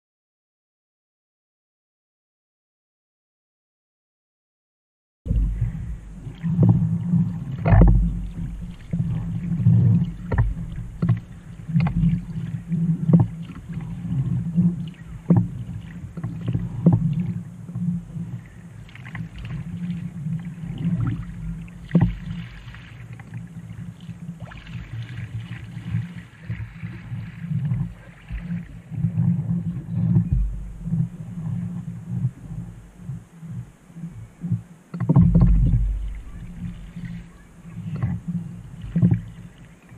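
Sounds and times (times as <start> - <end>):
paddle knocks and splashes: 5.3 - 33.2, 34.4 - 39.9
low rumble: 5.3 - 39.8
water slapping against hull: 5.3 - 39.9.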